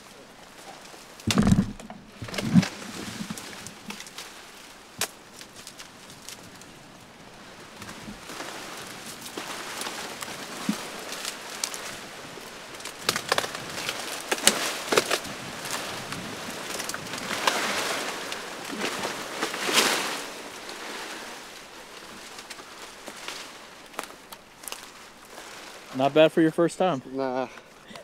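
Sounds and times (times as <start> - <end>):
twigs cracking: 0.0 - 26.1
branches and leaves rustling: 0.0 - 28.0.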